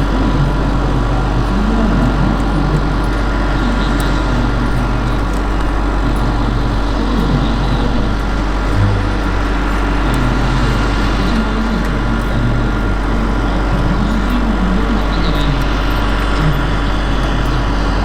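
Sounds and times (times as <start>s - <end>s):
model helicopter rotor and motor: 0.0s - 18.0s
thin steady whine: 0.0s - 18.0s.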